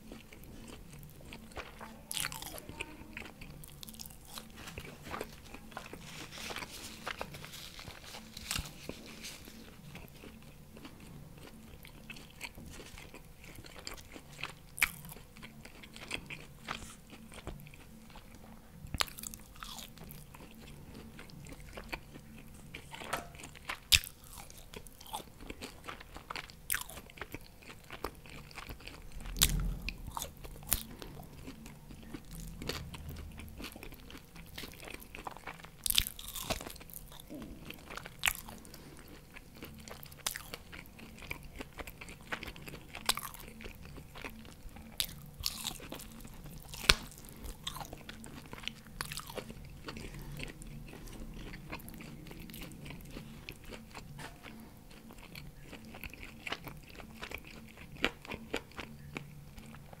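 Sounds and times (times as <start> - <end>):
chewing and biting meat: 0.0 - 60.0.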